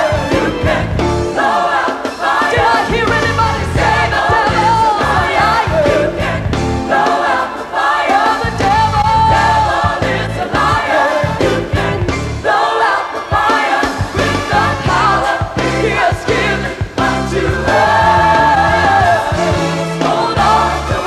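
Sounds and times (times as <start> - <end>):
bass and drums: 0.0 - 1.6, 2.3 - 7.3, 8.2 - 12.5, 13.4 - 21.0
band playing: 0.0 - 21.0
gospel choir singing: 0.0 - 21.0.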